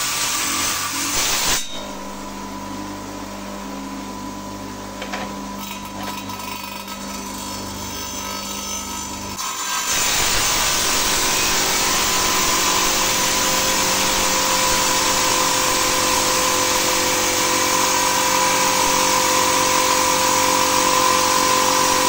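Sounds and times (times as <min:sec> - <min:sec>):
saw blade grinding stone: 0:00.0 - 0:02.3, 0:05.0 - 0:22.0
saw humming: 0:00.0 - 0:22.0.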